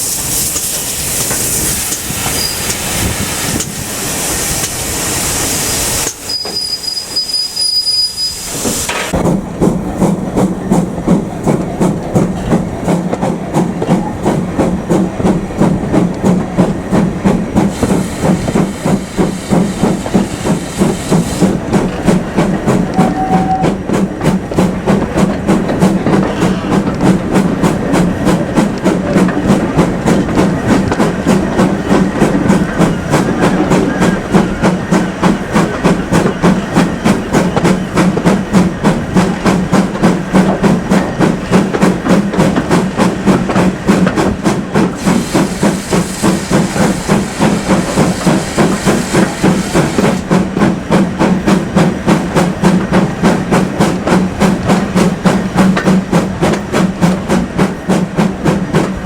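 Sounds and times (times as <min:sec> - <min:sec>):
steam hissing: 0:00.0 - 0:09.2, 0:17.1 - 0:23.3, 0:24.0 - 0:59.0
steam locomotive exhaust beats: 0:00.0 - 0:59.0.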